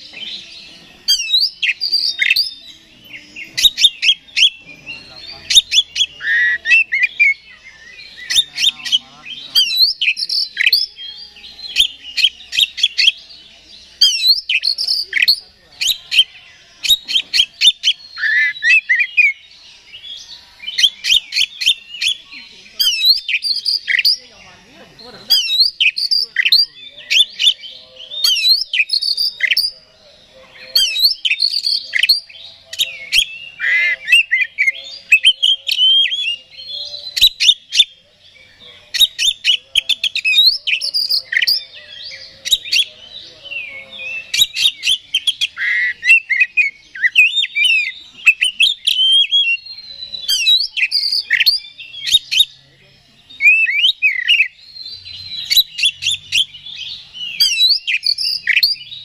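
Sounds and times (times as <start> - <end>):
bird singing whistles and chirps: 0.0 - 24.4, 25.2 - 59.0.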